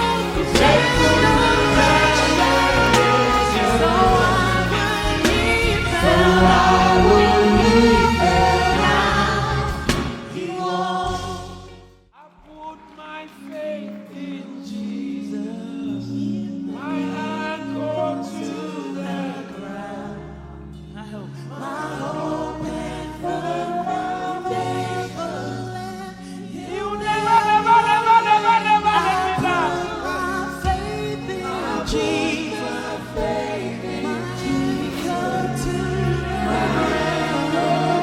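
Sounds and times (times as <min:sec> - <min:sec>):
choir singing gospel song: 0:00.0 - 0:12.0, 0:12.6 - 0:38.0
keyboard and bass chords: 0:00.0 - 0:12.0, 0:19.0 - 0:38.0.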